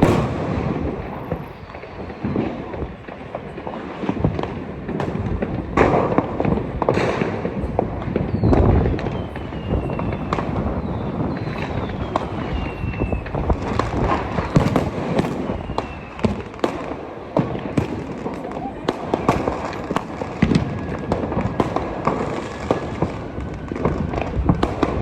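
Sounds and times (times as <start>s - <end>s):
falling firework whistles: 0.0s - 2.9s, 7.0s - 25.0s
firecrackers banging and crackling: 0.0s - 25.0s.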